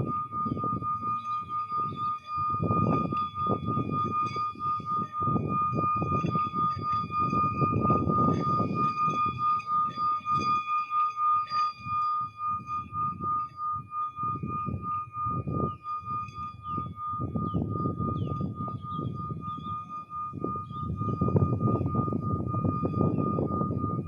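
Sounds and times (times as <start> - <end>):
steady high tone: 0.0 - 24.0.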